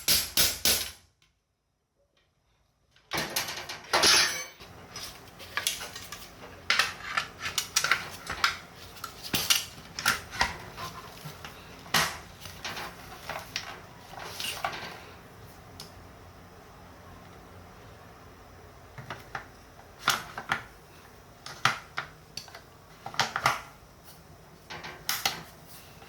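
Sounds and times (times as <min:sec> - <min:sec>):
low steady background noise: 0:00.0 - 0:26.0.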